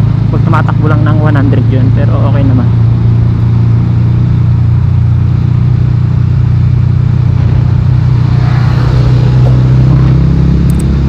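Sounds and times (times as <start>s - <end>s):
motorcycle engine droning: 0.0s - 11.0s
road and wind noise: 0.0s - 11.0s.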